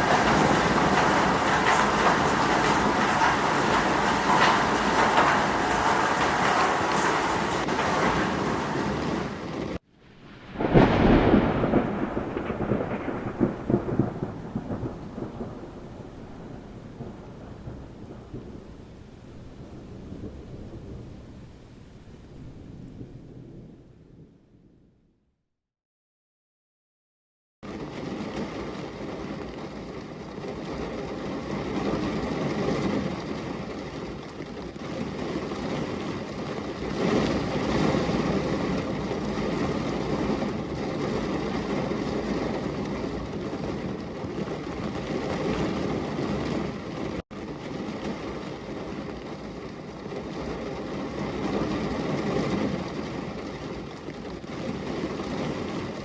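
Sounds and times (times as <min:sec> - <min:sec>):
rain: 0:00.0 - 0:24.9, 0:27.6 - 0:56.0
rolling thunder: 0:00.0 - 0:25.0, 0:27.6 - 0:56.0.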